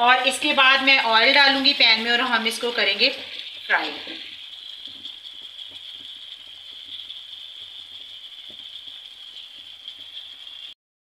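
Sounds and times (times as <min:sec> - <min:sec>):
chicken sizzling in pan: 0:00.0 - 0:10.8.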